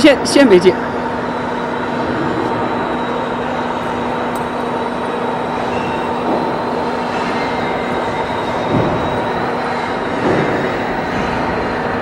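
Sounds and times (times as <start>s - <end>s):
constant hum: 0.0s - 12.0s.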